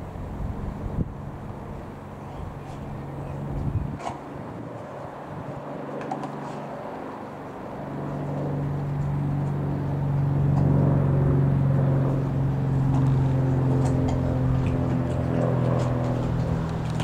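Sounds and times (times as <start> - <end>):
propeller plane passing overhead: 0.0 - 17.0.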